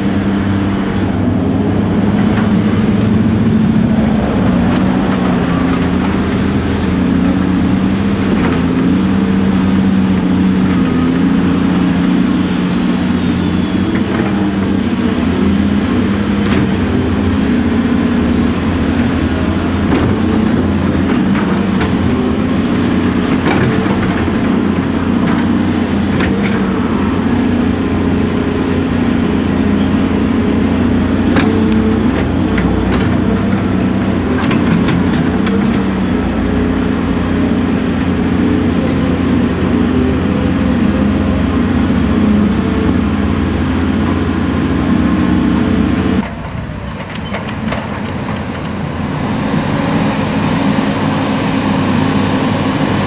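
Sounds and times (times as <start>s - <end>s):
dump truck engine approaching: 0.0s - 53.0s
excavator engine under load: 0.0s - 53.0s.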